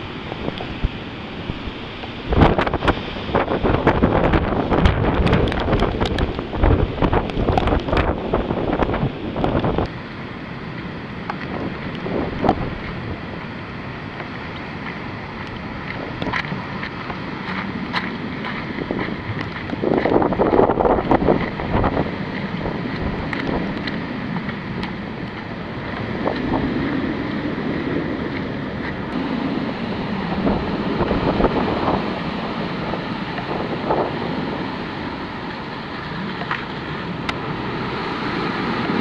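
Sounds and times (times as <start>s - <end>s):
wind gusting against microphone: 0.0s - 39.0s
rain ticking on camera: 1.6s - 10.0s, 10.7s - 34.4s.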